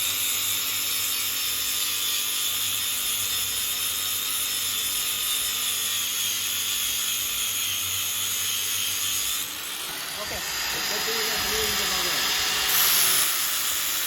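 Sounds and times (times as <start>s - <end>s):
hiss: 0.2s - 14.0s.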